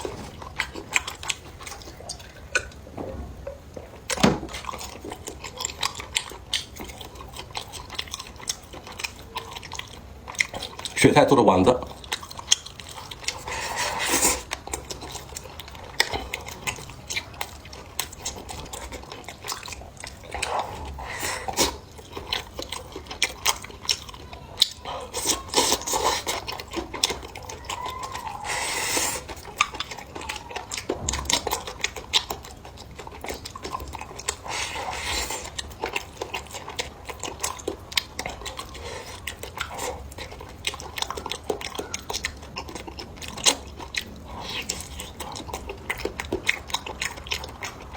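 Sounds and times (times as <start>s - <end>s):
chewing: 0.0s - 47.9s.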